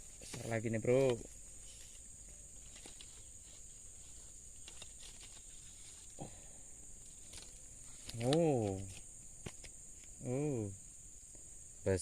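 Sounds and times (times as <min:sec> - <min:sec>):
high-pitched insect buzz: 0:00.0 - 0:12.0.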